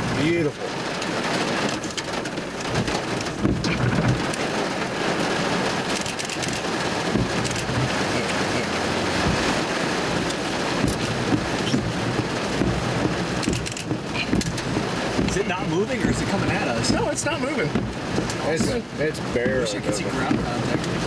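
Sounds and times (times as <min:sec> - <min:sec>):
rain on a vehicle: 0:00.0 - 0:21.0
sharp raindrops hitting: 0:00.0 - 0:21.0.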